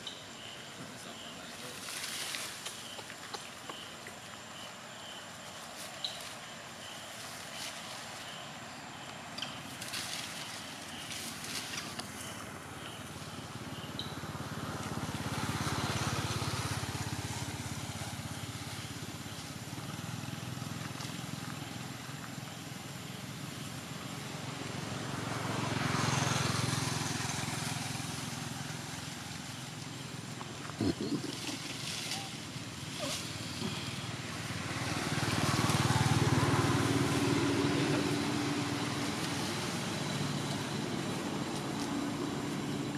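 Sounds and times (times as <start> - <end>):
outdoor background noise: 0.0 - 42.9
passing motor vehicles: 0.0 - 42.9.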